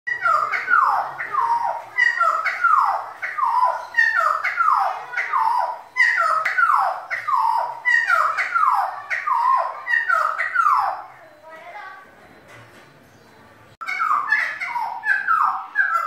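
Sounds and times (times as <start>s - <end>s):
songbird whistling song: 0.1s - 11.6s, 13.0s - 16.0s.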